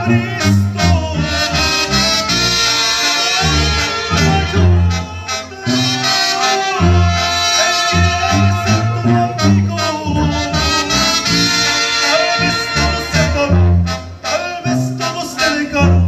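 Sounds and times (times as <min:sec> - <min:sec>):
brass band playing: 0:00.0 - 0:16.0
sousaphone bass line: 0:00.0 - 0:16.0.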